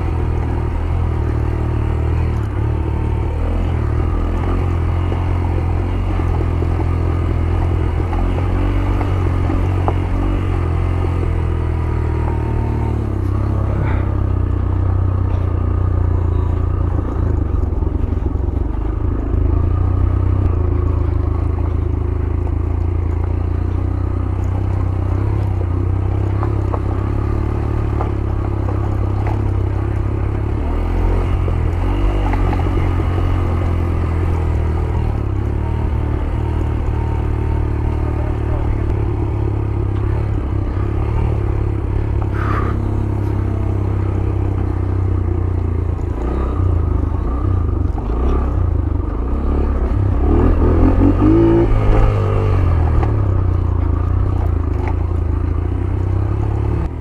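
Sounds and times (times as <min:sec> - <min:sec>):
bike clattering and rattling: 0:00.0 - 0:56.7
motorcycle engine running: 0:00.0 - 0:57.0.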